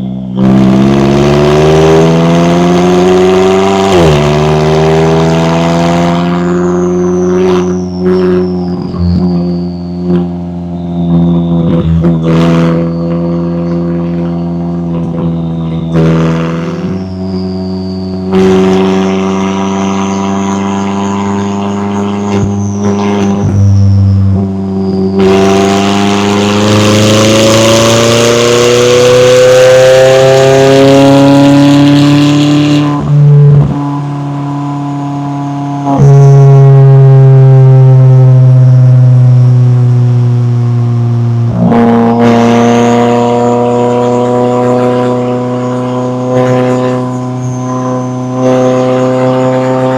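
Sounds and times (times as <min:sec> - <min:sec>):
car engine pulling under load: 0:00.0 - 0:49.9.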